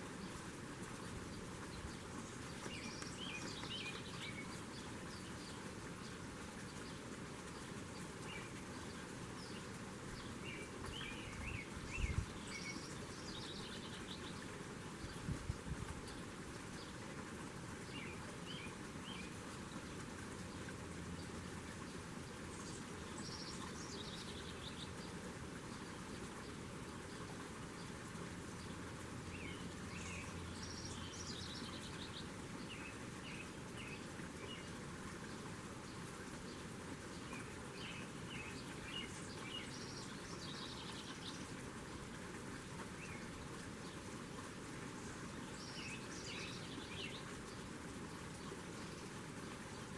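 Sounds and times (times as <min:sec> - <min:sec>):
small birds chirping: 0:00.2 - 0:15.4, 0:16.0 - 0:49.9.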